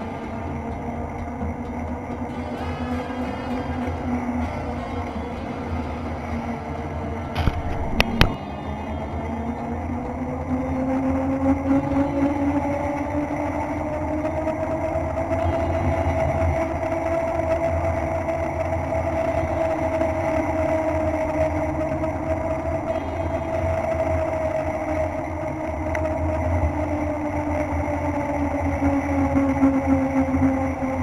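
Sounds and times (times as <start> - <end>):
steady hum: 0.0 - 31.0
wind rumbling on microphone: 3.9 - 31.0.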